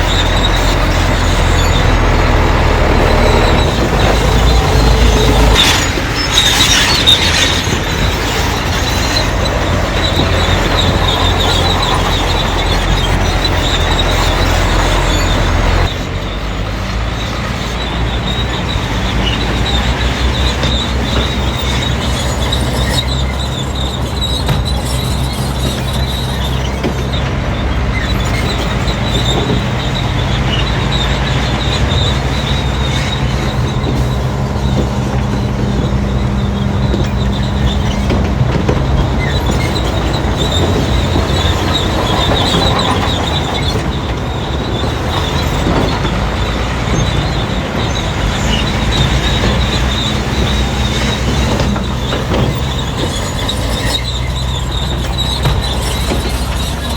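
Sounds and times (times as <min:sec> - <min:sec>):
diesel engine under load: 0:00.0 - 0:56.9
steel tracks squealing and clanking: 0:00.0 - 0:56.9.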